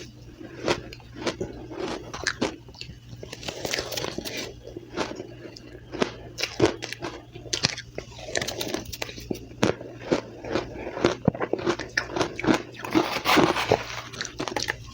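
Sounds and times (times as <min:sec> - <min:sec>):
ice crunching being chewed: 0:00.5 - 0:14.7.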